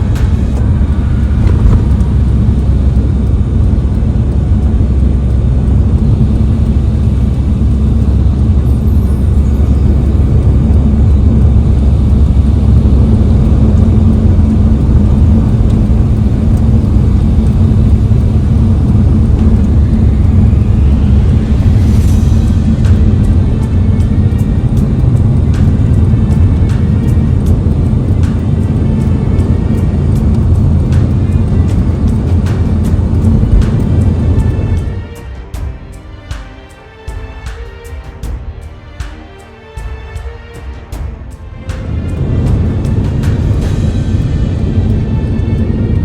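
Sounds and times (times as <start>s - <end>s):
car engine and tyre rumble: 0.0s - 46.0s.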